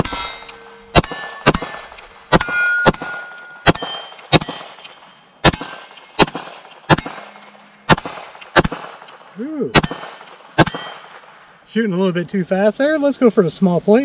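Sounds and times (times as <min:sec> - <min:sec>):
pistol shots: 0:00.0 - 0:11.4
steel plate clanging: 0:00.0 - 0:11.4.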